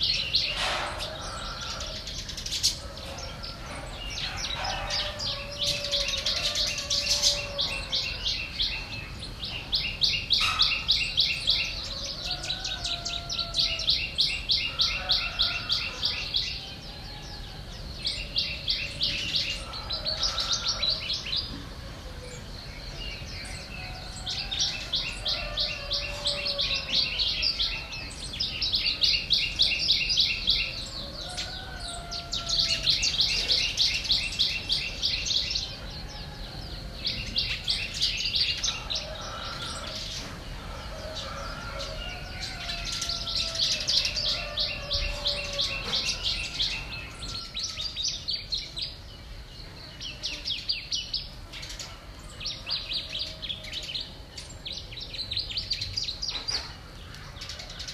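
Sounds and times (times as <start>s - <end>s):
birds high rattling trills: 0.0s - 57.9s.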